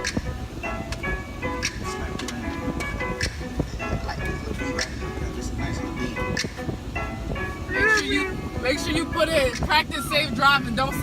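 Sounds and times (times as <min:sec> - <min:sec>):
hip hop music: 0:00.0 - 0:11.0.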